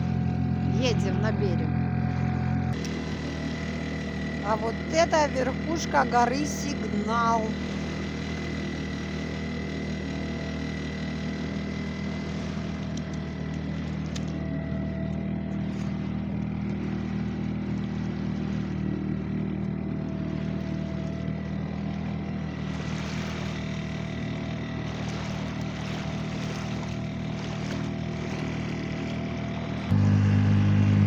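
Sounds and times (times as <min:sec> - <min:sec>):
motorboat engine drone: 0:00.0 - 0:31.0.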